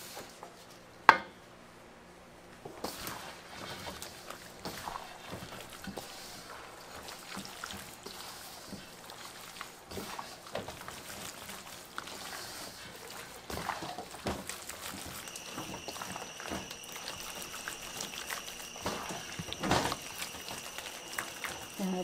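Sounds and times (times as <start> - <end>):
hands squelching chicken in batter: 2.8 - 22.0.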